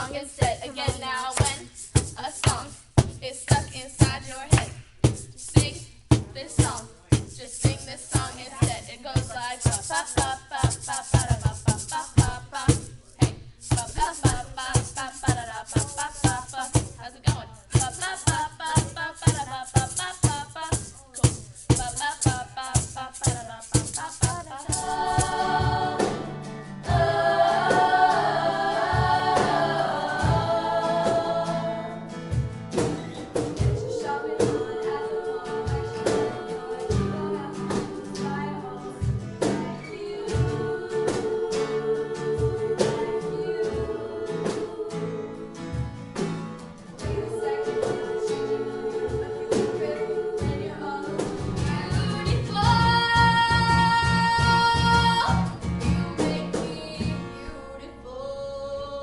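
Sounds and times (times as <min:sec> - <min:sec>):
singing over a steady beat: 0:00.0 - 0:45.6, 0:46.9 - 0:55.5.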